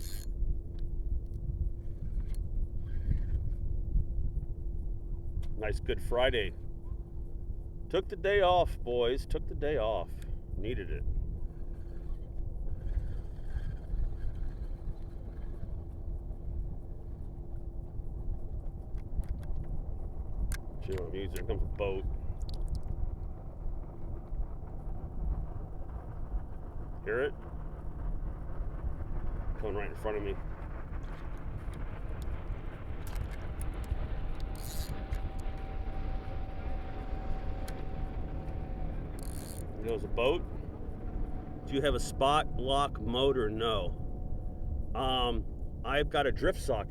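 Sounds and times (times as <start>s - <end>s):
distant motorboat engine drone: 0.0s - 46.9s
thin steady whine: 0.0s - 46.9s.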